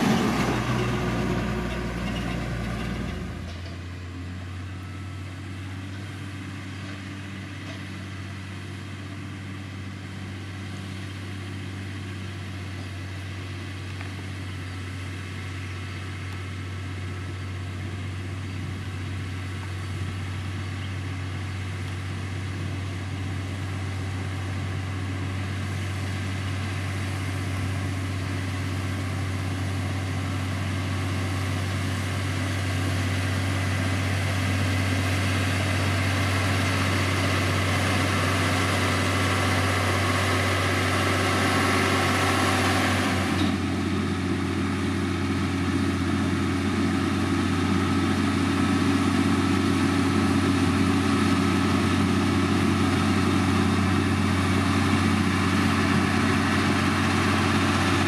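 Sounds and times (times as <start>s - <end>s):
diesel engine humming: 0.0s - 58.0s.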